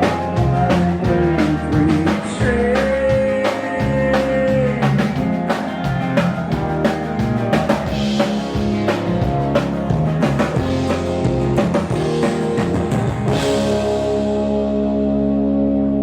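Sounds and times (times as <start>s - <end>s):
drum kit beat: 0.0s - 14.8s
country band playing: 0.0s - 16.0s.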